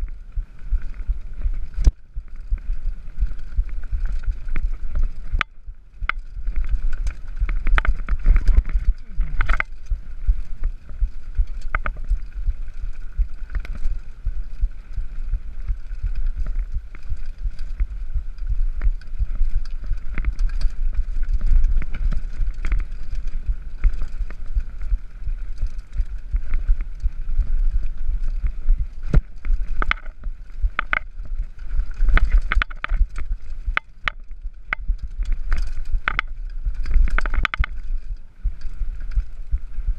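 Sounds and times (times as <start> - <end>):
bike knocking and rattling: 0.0 - 39.9
low rumble of tyres and wind: 0.0 - 39.9.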